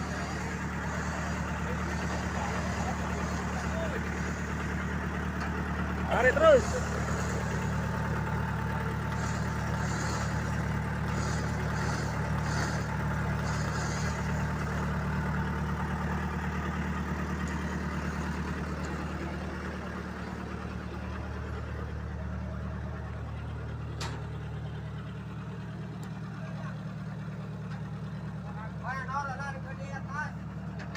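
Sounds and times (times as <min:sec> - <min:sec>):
tow truck engine running: 0:00.0 - 0:30.9.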